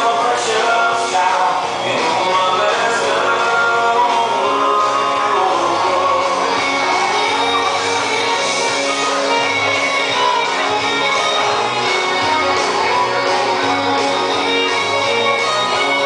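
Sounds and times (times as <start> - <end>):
country song over loudspeakers: 0.0 - 16.0.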